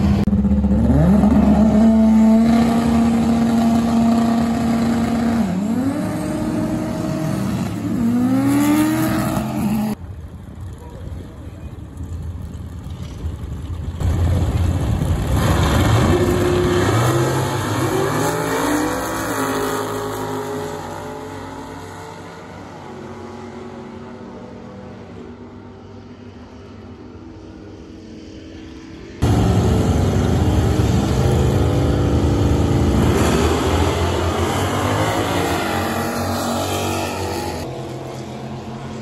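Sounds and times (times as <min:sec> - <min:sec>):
racing engine at high revs: 0:00.0 - 0:10.0, 0:15.2 - 0:25.7, 0:28.0 - 0:39.0.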